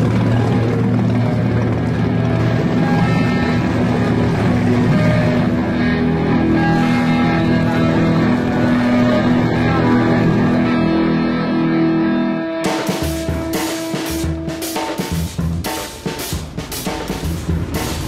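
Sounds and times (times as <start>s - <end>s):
background music sustained notes: 0.0s - 18.0s.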